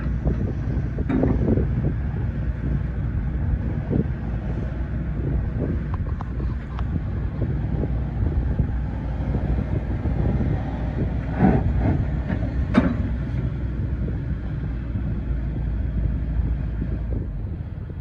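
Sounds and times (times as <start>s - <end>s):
diesel engine running: 0.0s - 18.0s
steel tracks rumbling: 0.0s - 18.0s.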